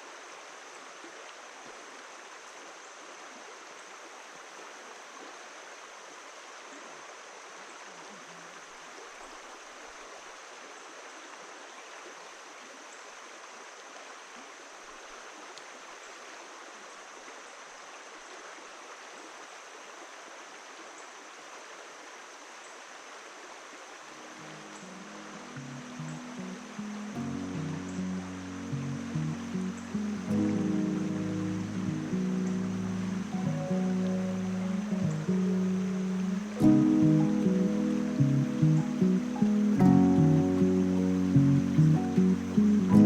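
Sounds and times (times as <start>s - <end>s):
river water flowing: 0.0s - 43.0s.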